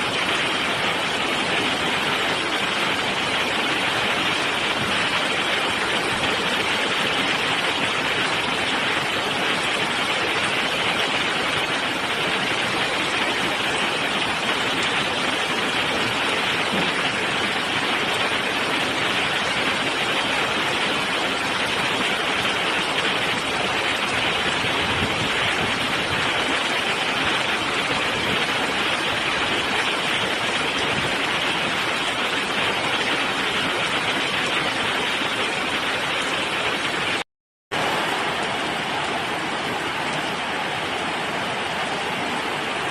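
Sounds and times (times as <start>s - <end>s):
heavy rain downpour: 0.0s - 42.9s.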